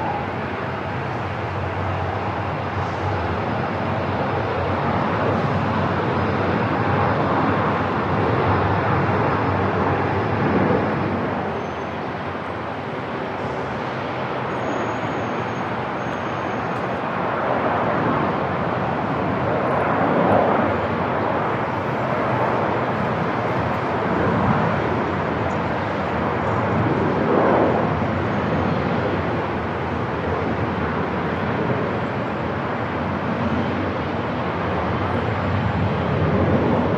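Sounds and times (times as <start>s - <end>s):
aircraft engine: 0.0s - 36.9s
airport noise wash: 0.0s - 36.9s.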